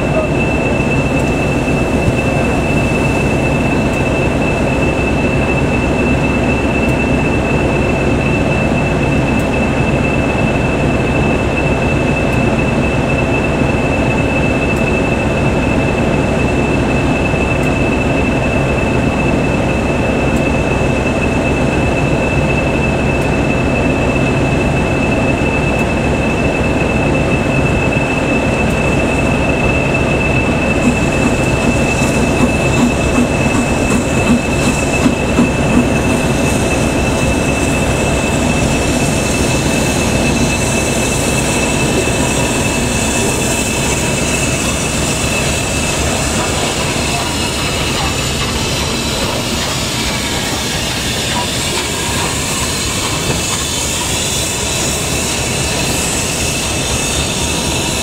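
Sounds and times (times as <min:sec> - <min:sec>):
diesel locomotive idling: 0:00.0 - 0:58.0
steam hissing: 0:00.0 - 0:58.0.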